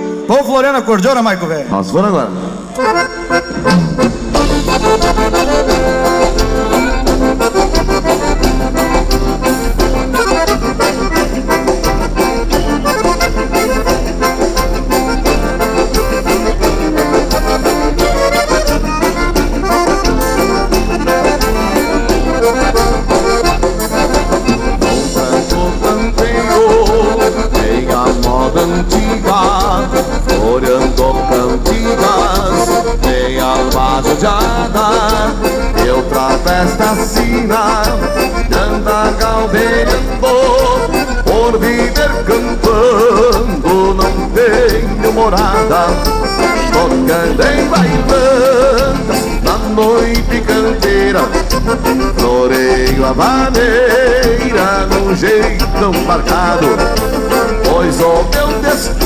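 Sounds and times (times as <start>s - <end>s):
accordion-led dance band: 0.0s - 59.0s.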